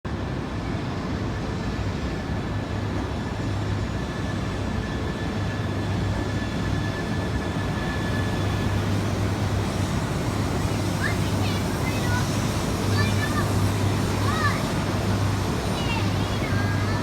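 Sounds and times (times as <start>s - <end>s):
train low rumble: 0.1s - 17.0s
faint high whine: 0.5s - 17.0s.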